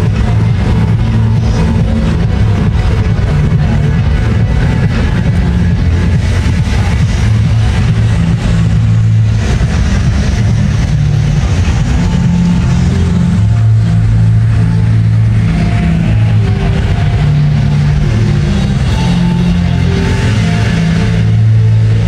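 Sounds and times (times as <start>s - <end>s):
heavy bass line: 0.0s - 22.0s
held synth notes: 0.0s - 22.0s.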